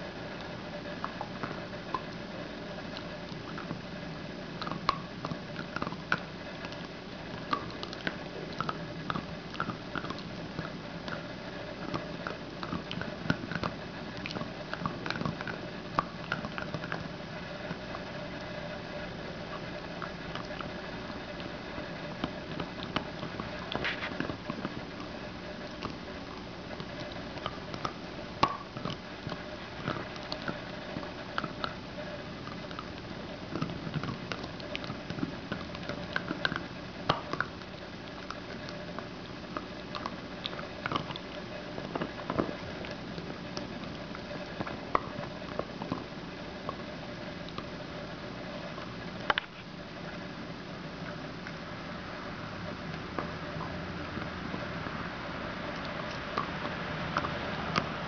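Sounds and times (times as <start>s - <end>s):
faint steady hum: 0.0s - 58.0s
dog gnawing on a bone: 0.1s - 58.0s.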